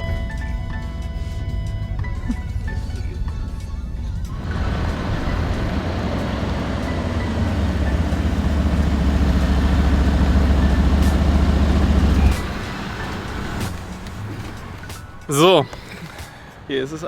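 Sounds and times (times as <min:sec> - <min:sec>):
car engine rumbling: 0:01.2 - 0:15.7.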